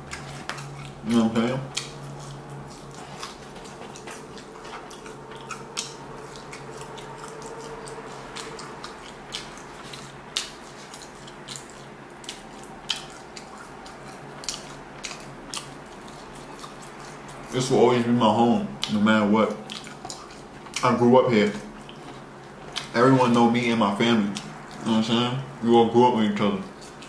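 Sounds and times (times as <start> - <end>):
person chewing food: 0.0 - 17.8, 18.8 - 23.0, 24.2 - 25.0, 26.6 - 27.0
faint steady hum: 0.0 - 27.0.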